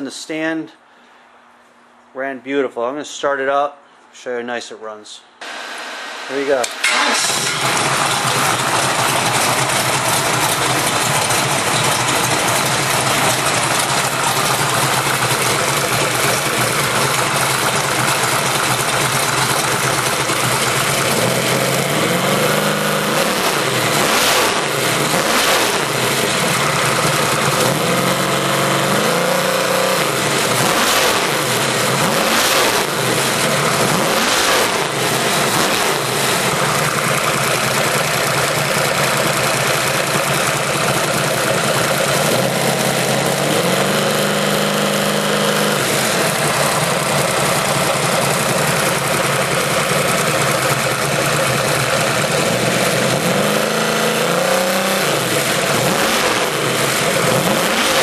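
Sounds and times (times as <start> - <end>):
engine revving: 5.4 - 58.0.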